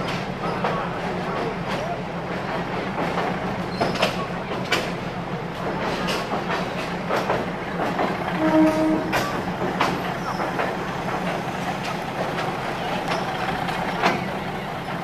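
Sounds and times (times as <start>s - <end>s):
train rumbling on track: 0.0s - 15.0s
wheels clicking over rail joints: 0.0s - 15.0s.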